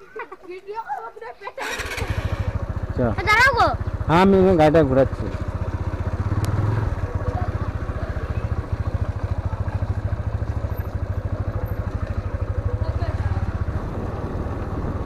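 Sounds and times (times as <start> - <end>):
motorcycle engine running: 1.6 - 15.0.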